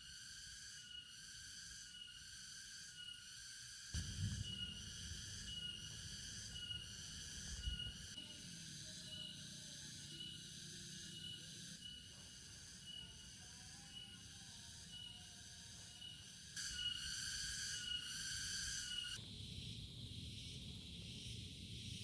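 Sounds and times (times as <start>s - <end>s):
insects trilling: 0.0s - 22.0s
pulsing buzz: 0.1s - 22.0s.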